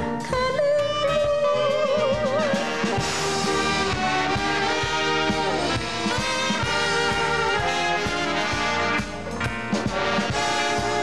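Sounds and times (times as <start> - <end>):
big band brass and saxophones: 0.0 - 11.0
upright bass: 0.0 - 11.0.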